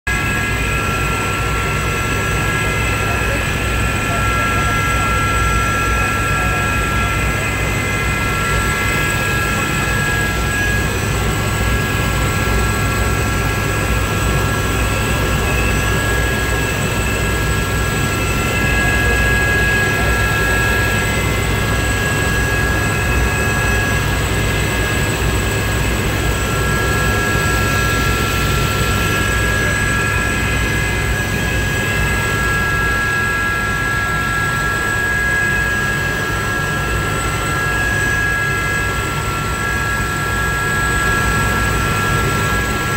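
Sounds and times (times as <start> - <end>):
helicopter rotor and engine rumble: 0.0 - 42.9.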